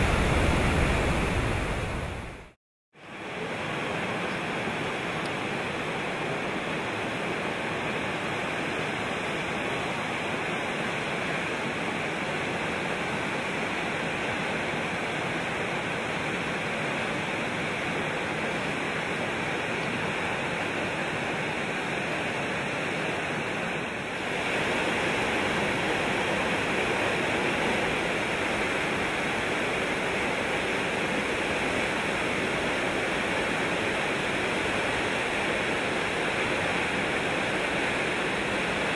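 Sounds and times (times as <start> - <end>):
waterfall rushing: 0.0 - 2.6, 3.3 - 38.9.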